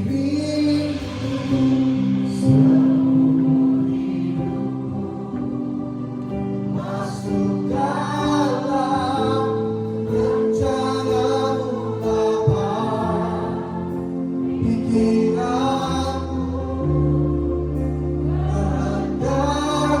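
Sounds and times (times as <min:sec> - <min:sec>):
choir singing gospel: 0:00.0 - 0:20.0
held chords: 0:00.0 - 0:20.0.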